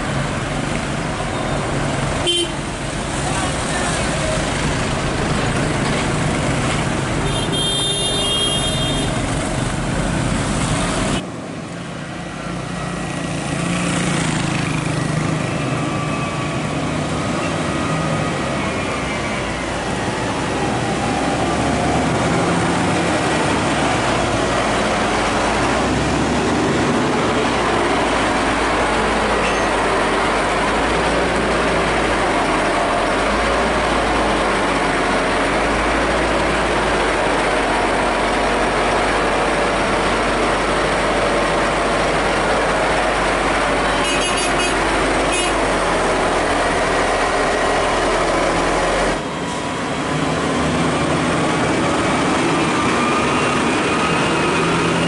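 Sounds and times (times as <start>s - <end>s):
crane diesel engine running: 0.0s - 55.0s
street traffic: 0.0s - 55.0s.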